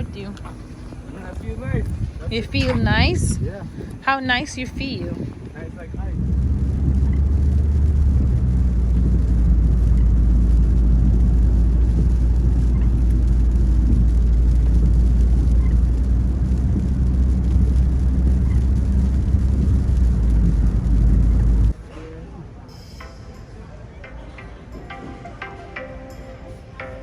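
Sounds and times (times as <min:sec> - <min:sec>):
car engine and road drone: 0:00.0 - 0:21.8.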